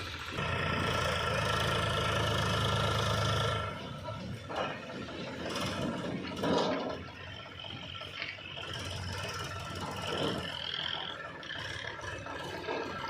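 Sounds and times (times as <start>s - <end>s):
heavy machinery diesel engine running: 0.0s - 13.0s.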